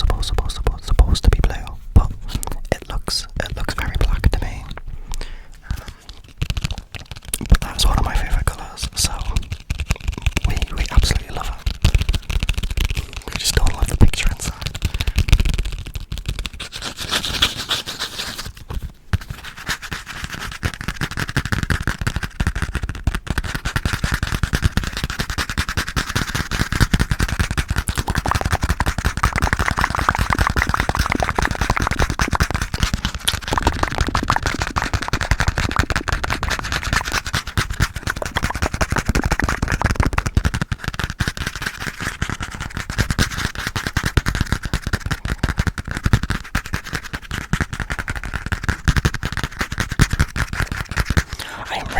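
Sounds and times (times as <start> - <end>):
rapid tapping on microphone: 0.0 - 51.9.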